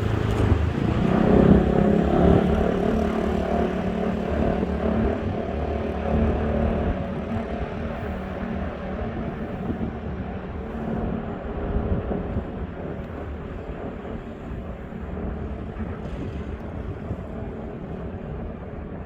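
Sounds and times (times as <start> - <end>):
outdoor background noise: 0.0 - 19.0
vehicle engines rumbling: 0.0 - 19.0.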